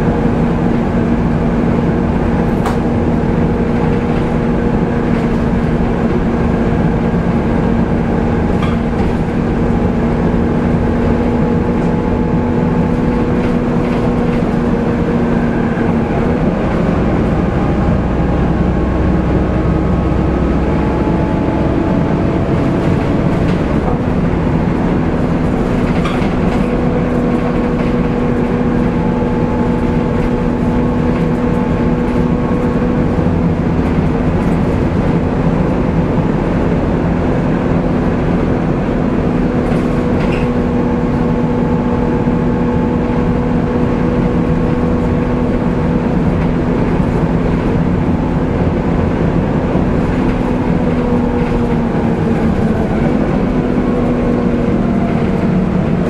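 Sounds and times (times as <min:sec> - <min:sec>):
bus engine rumble and hum: 0:00.0 - 0:56.0.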